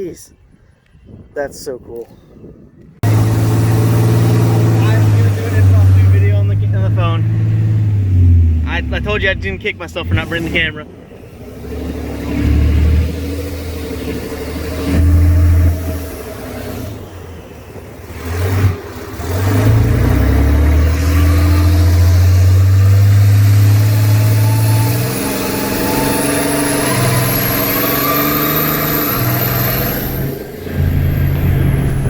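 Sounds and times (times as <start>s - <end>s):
truck engine revving: 3.0s - 32.0s.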